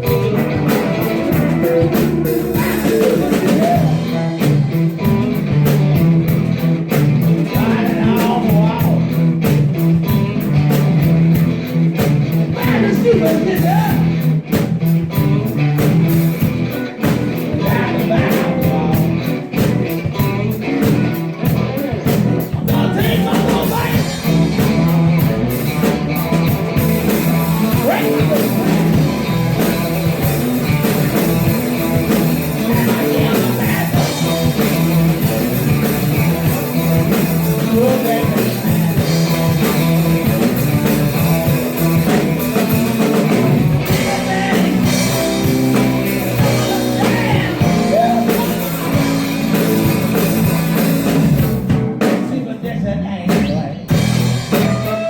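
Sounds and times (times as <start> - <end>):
blues-rock band playing: 0.0 - 55.0
guitar: 0.0 - 55.0.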